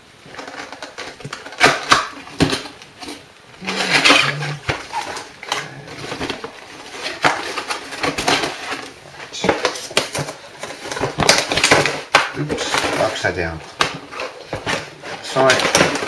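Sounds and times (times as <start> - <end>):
packaging rustling and crinkling: 0.1 - 16.0.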